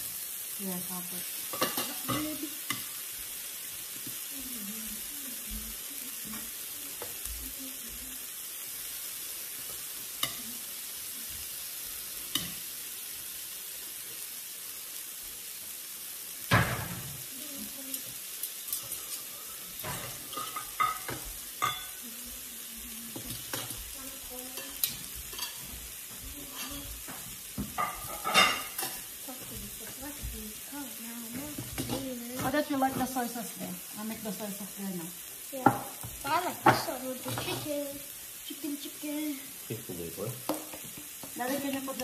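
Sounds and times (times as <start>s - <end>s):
meat sizzling on a grill: 0.0s - 42.0s.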